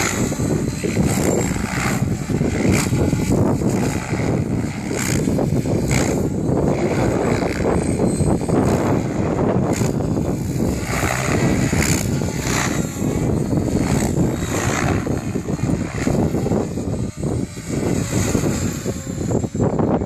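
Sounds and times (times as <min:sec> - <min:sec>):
model helicopter rotor noise: 0:00.0 - 0:20.0
wind rumble on microphone: 0:00.0 - 0:20.0.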